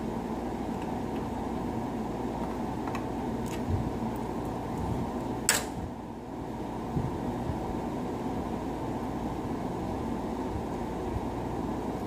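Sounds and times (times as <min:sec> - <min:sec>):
fan whirring: 0:00.0 - 0:12.0.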